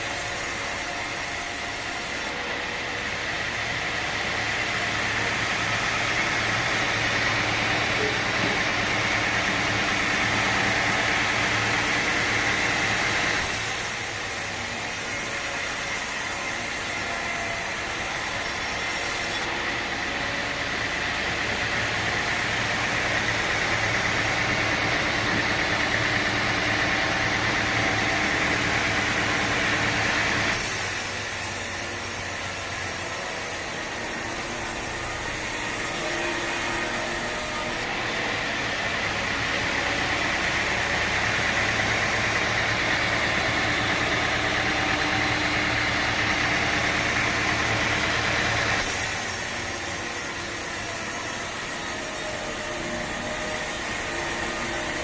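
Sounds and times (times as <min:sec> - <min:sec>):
sawmill saw cutting log: 0:00.0 - 0:55.0.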